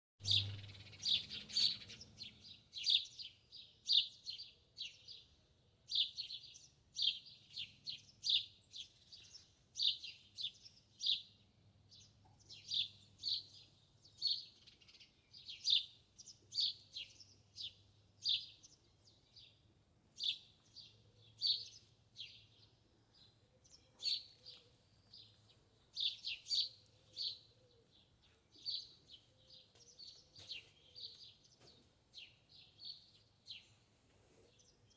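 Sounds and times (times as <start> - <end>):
small birds chirping: 0.2 - 34.9.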